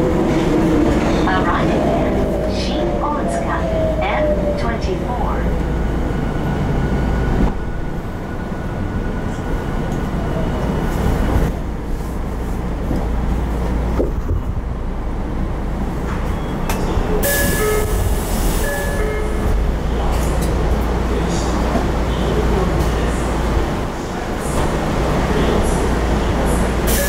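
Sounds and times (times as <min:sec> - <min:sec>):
subway train wheels and motors rumbling: 0:00.0 - 0:27.0.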